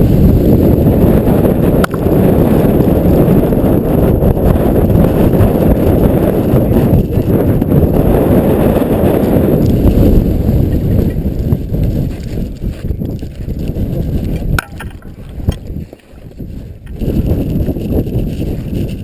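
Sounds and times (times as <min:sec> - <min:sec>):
blizzard wind buffeting microphone: 0:00.0 - 0:19.0.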